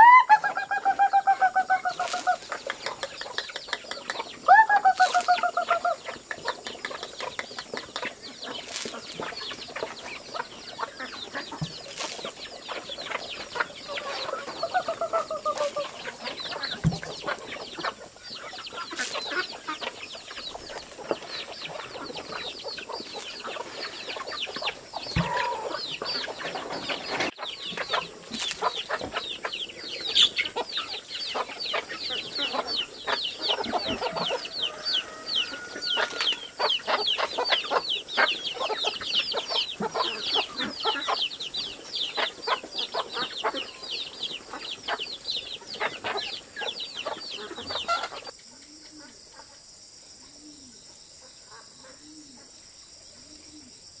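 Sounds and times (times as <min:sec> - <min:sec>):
chickens clucking: 0:00.0 - 0:49.6
longer bird calls: 0:00.0 - 0:49.6.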